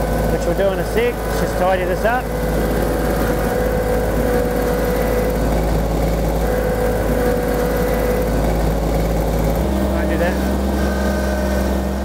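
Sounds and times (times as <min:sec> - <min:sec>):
steady whine: 0:00.0 - 0:12.0
tractor diesel engine running: 0:00.0 - 0:12.0.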